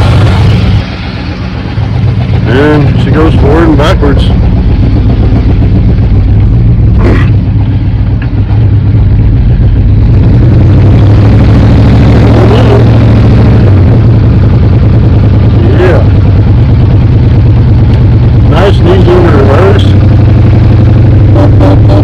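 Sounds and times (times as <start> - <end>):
pickup truck engine running: 0.0 - 22.0.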